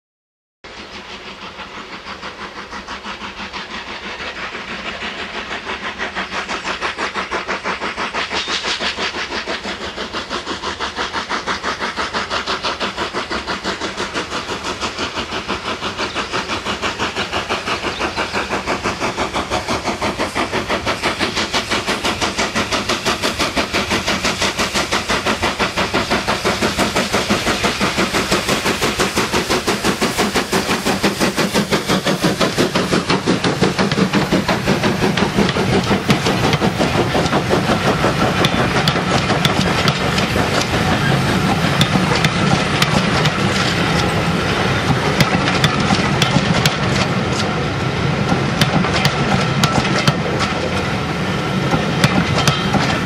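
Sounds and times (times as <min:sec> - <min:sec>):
steam locomotive exhaust beats: 0:00.7 - 0:53.0.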